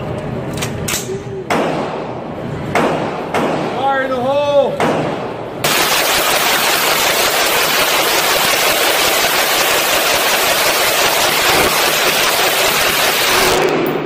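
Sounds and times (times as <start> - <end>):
rapid gunshots indoors: 0.9 - 3.8, 4.8 - 14.0.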